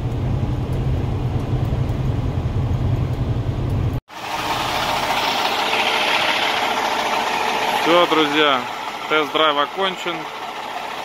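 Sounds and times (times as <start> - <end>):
diesel truck engine rumble: 0.0 - 11.0
engine idling: 0.0 - 11.0.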